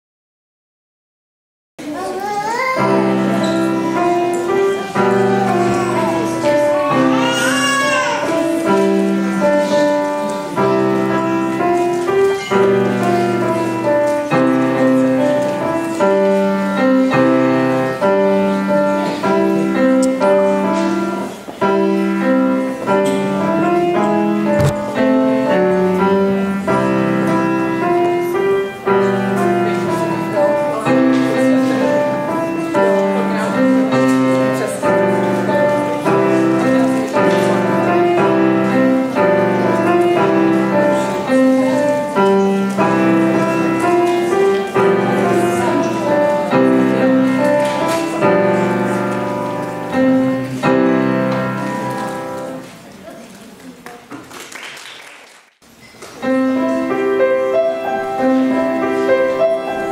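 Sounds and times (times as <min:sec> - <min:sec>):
grand piano playing: 0:02.5 - 0:53.0, 0:56.2 - 0:59.9.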